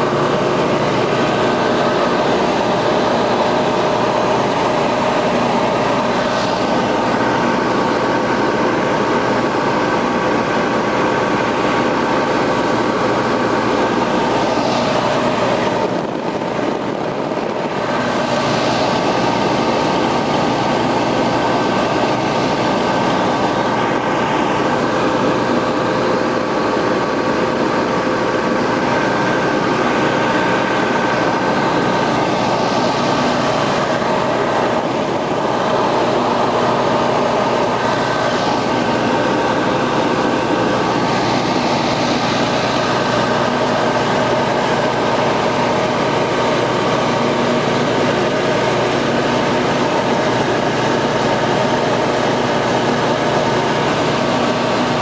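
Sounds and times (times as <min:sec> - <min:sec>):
aircraft engine and propeller drone: 0:00.0 - 0:55.0
rushing air noise: 0:00.0 - 0:55.0.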